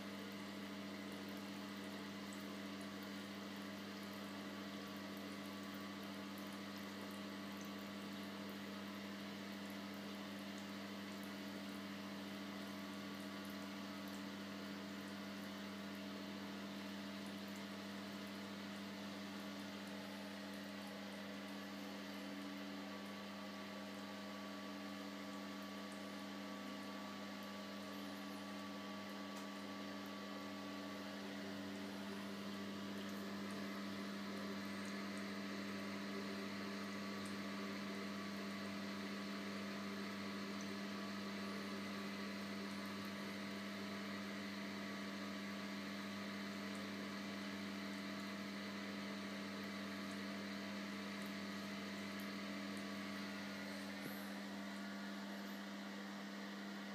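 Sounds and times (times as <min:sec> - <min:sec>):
steady hum: 0:00.0 - 0:56.9.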